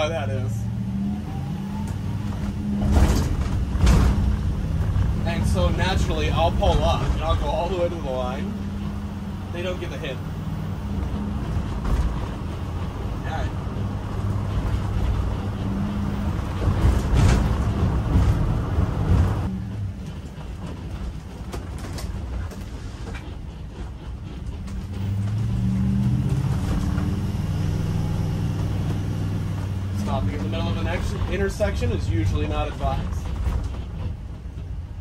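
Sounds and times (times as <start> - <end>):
engine hum: 0.0 - 35.0
road noise inside vehicle: 0.0 - 35.0.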